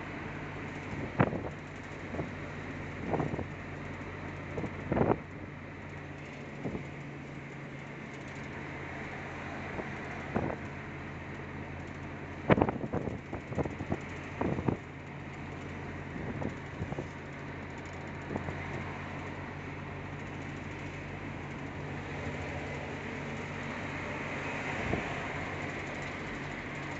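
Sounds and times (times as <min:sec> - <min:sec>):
car road and engine hum: 0:00.0 - 0:26.9.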